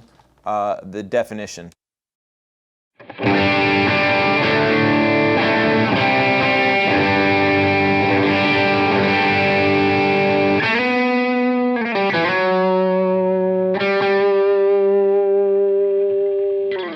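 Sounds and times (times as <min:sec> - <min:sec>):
overdriven electric guitar chords: 0:03.0 - 0:16.9.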